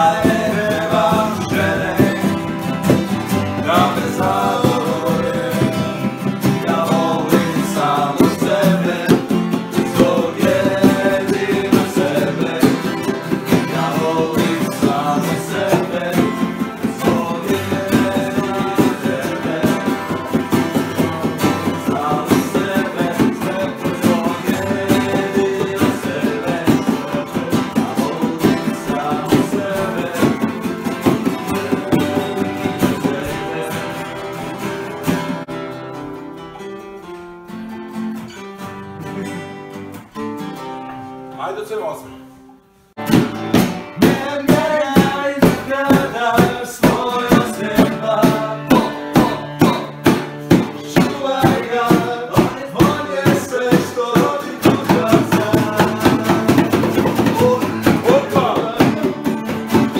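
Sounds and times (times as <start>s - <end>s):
voices singing: 0.0s - 35.5s, 44.0s - 59.9s
bongos: 0.0s - 35.7s, 43.0s - 59.9s
acoustic guitars strumming: 0.0s - 59.9s.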